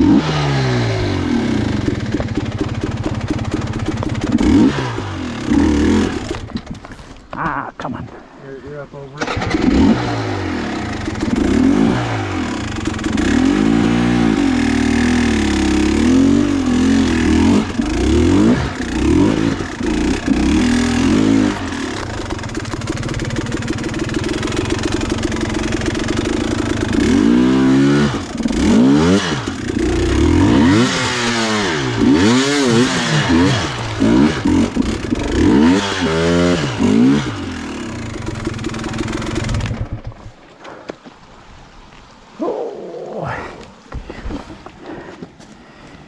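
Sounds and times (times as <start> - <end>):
dirt bike engine revving: 0.0 - 7.0, 9.2 - 40.3.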